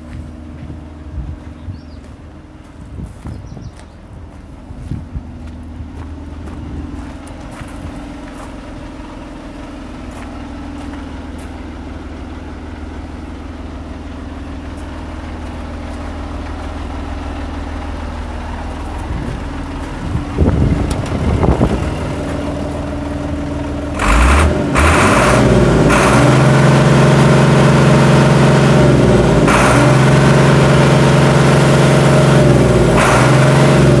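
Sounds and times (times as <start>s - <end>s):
diesel lorry engine idling: 0.0s - 34.0s.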